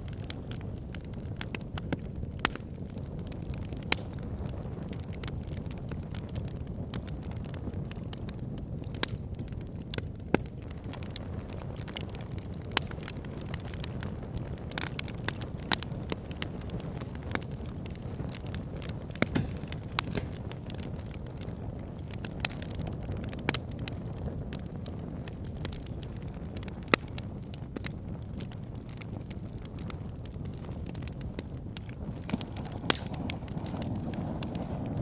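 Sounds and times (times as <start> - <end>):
fireplace flames rushing: 0.0 - 35.0
logs crackling and popping: 0.0 - 35.0.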